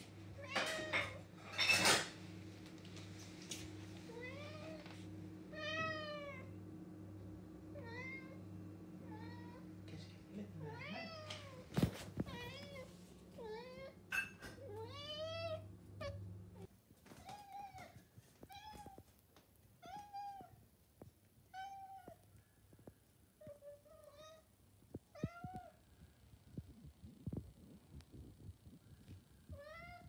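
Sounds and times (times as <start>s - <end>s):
steady low hum: 0.0s - 16.7s, 22.2s - 30.0s.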